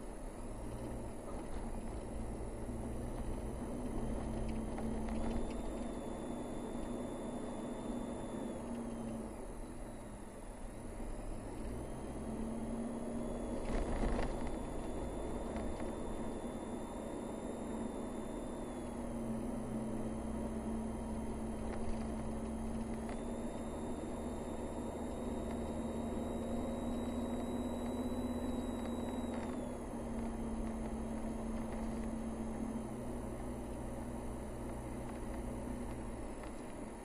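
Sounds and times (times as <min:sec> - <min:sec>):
car engine and tyre hum: 0:00.0 - 0:37.0
faint high whine: 0:00.0 - 0:37.0.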